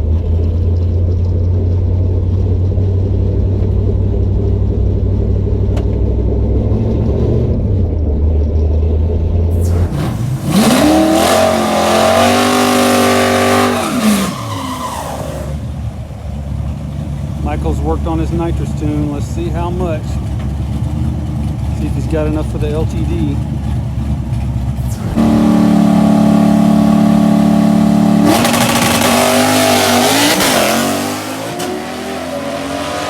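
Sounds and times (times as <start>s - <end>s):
drag car engine revving: 0.0s - 33.0s.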